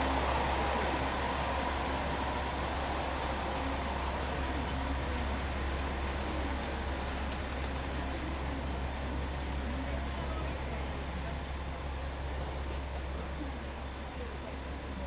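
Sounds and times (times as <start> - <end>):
diesel railcar engine idling: 0.0 - 15.0.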